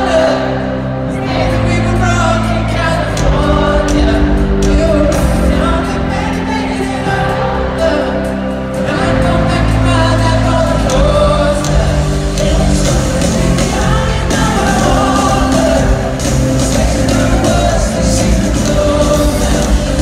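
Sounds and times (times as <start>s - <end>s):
live pop band playing: 0.0s - 20.0s
person singing lead vocals: 0.0s - 20.0s.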